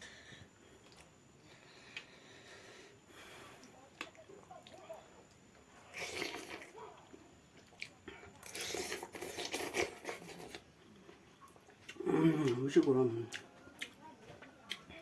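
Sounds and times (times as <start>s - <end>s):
person chewing food: 0.2s - 15.0s.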